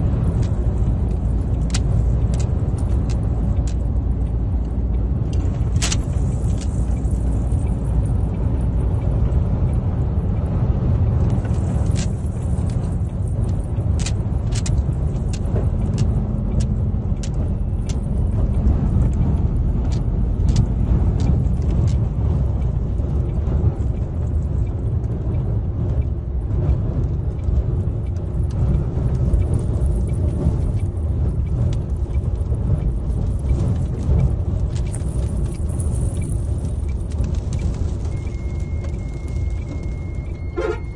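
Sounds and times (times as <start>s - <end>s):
road noise low rumble: 0.0s - 40.9s.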